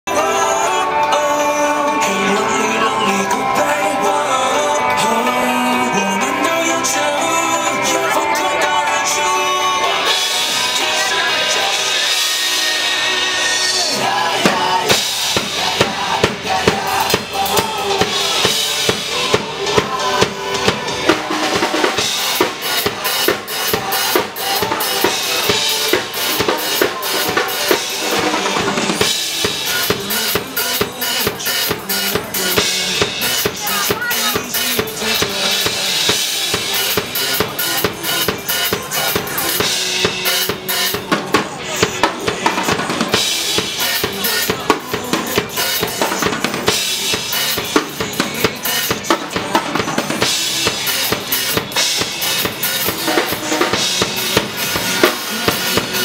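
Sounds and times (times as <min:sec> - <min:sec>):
drum kit playing rock beat: 0:00.0 - 0:56.0
recorded rock song: 0:00.0 - 0:56.0.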